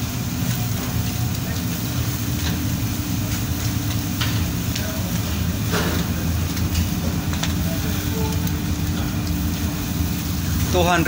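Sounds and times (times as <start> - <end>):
crackles from coals: 0.0 - 11.0
low hum of kitchen machinery: 0.0 - 11.0.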